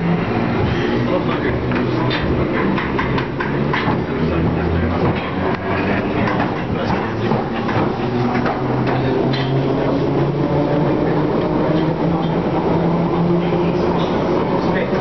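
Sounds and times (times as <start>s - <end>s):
train running at speed: 0.0s - 15.0s.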